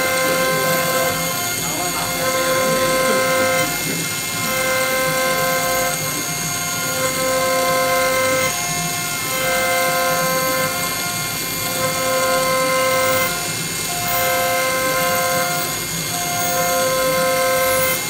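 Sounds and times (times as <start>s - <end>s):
milling machine spindle running: 0.0s - 18.0s.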